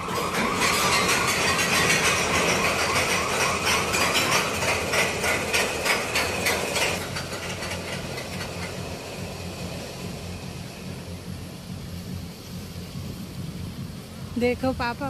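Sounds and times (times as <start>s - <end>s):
low hum of lift: 0.0s - 15.0s
roller coaster ratchet clacking: 0.0s - 15.0s.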